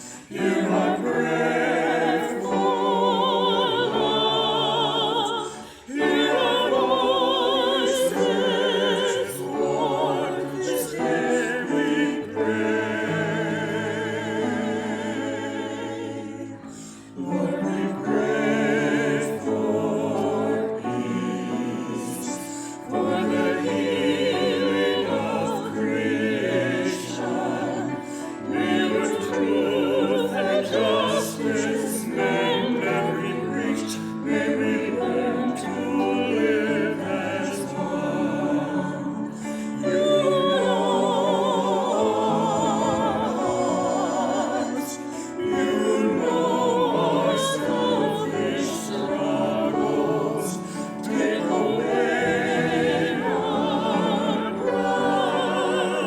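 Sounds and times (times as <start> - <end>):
classical sacred singing with vibrato: 0.0 - 56.0.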